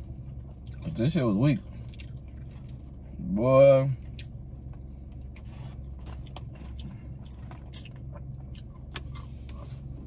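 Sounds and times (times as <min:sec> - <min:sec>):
low hum: 0:00.0 - 0:10.0
chewing crunchy food: 0:00.1 - 0:01.0, 0:01.6 - 0:03.2, 0:04.0 - 0:10.0.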